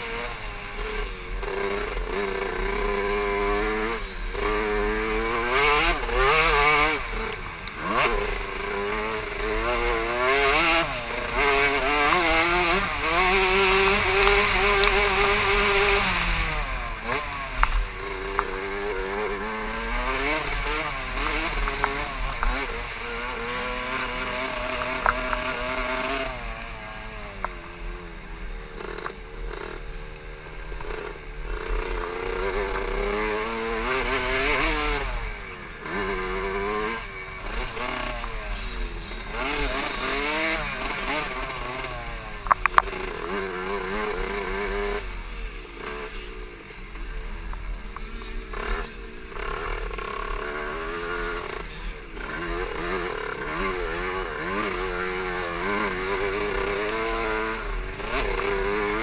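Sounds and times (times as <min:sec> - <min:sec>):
two-stroke dirt bike engine revving: 0:00.0 - 0:59.0.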